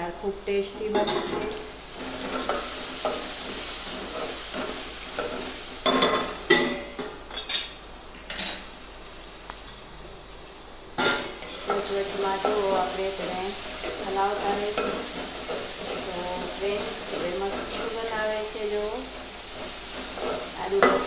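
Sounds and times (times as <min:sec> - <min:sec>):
tempering sizzling in hot oil: 0:00.0 - 0:21.0.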